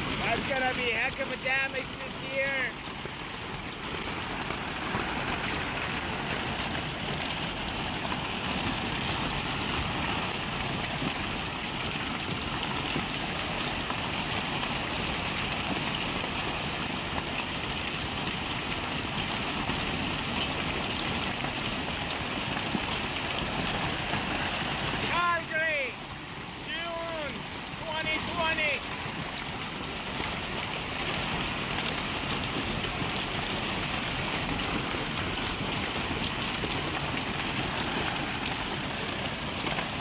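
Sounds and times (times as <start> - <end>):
hailstones clattering: 0.0 - 40.0.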